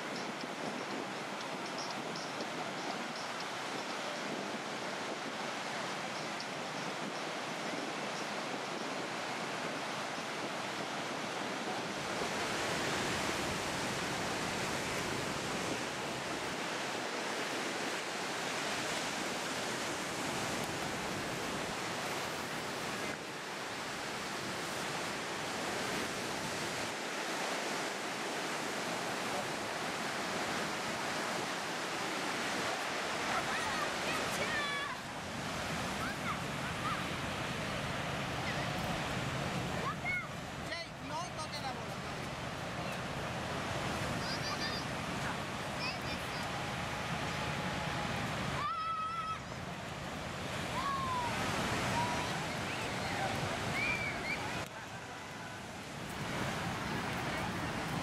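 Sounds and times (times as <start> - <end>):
ocean surf breaking: 0.0 - 58.0
wind: 0.0 - 58.0.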